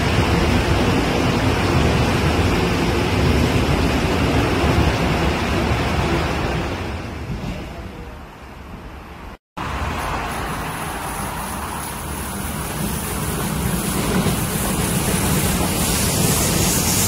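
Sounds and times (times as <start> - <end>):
subway train rumbling past: 0.0 - 17.0.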